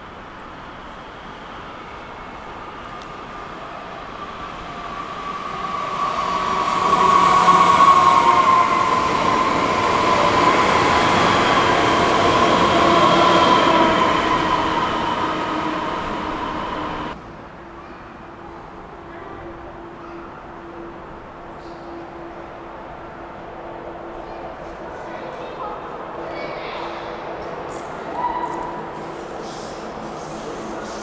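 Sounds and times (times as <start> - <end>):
train wheels on rails: 0.0 - 17.2, 21.0 - 31.0.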